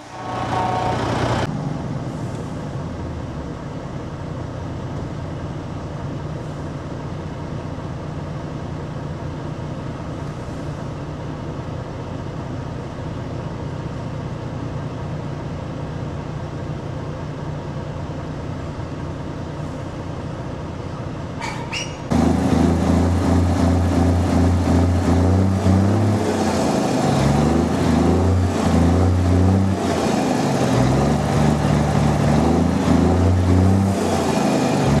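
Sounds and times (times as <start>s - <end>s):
truck engine drone: 0.0s - 35.0s.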